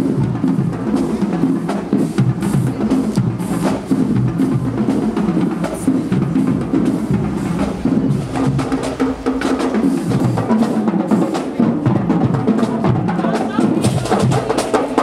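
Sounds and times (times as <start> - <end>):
marching band playing: 0.0 - 15.0
snare and bass drums: 0.0 - 15.0.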